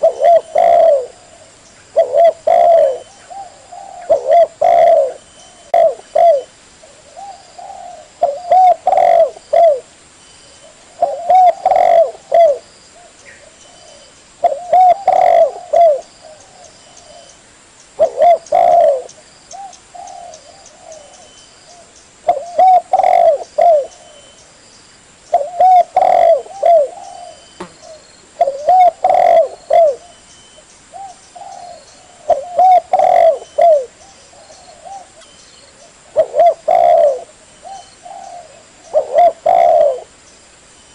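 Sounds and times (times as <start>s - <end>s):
dove cooing: 0.0s - 9.9s, 10.6s - 17.4s, 18.0s - 24.4s, 25.3s - 30.2s, 30.9s - 40.2s.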